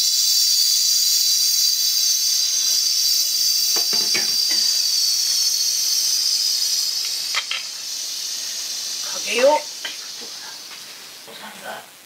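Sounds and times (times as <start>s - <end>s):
pressure cooker steam hiss: 0.0s - 12.0s.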